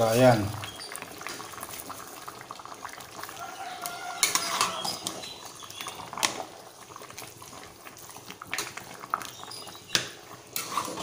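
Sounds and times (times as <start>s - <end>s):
ladle stirring thick stew: 0.2s - 11.0s.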